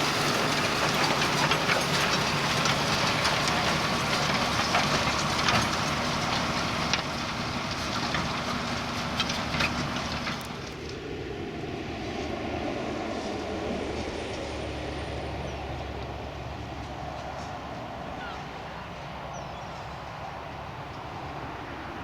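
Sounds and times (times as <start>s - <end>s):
tractor engine drone: 0.0s - 22.0s.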